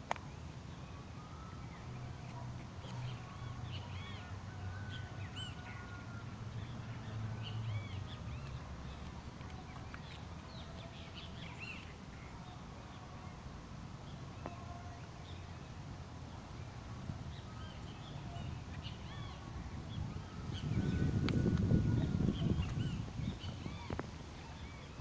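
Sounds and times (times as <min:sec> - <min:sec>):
birds chirping: 0:00.0 - 0:13.4, 0:14.0 - 0:25.0.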